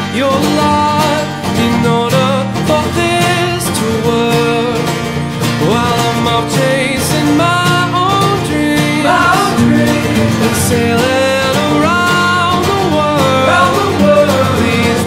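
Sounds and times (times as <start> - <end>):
country guitar song: 0.0 - 15.0.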